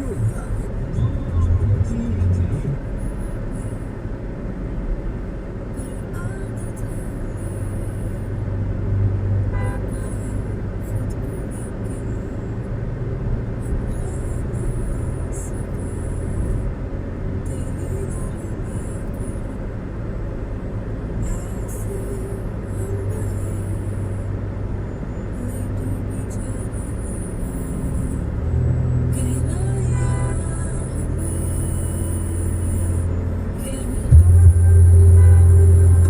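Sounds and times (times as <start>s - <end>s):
road and engine rumble: 0.0s - 36.0s.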